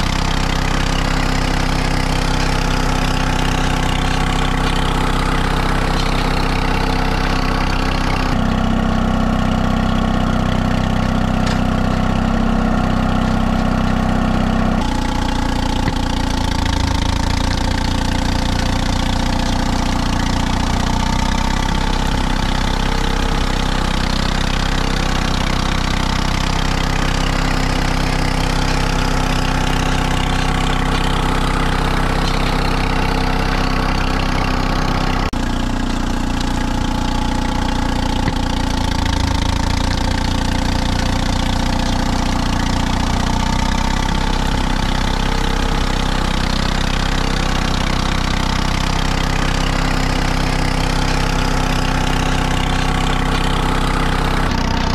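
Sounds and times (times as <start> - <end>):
diesel bulldozer engine running: 0.0 - 54.9.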